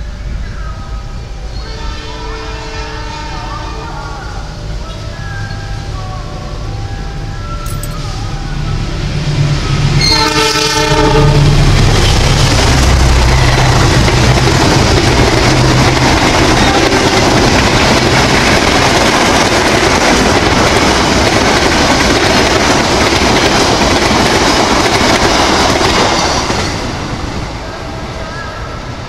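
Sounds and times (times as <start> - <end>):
diesel locomotive engine hum: 0.0 - 29.0
train wheels rolling on rails: 3.0 - 29.0.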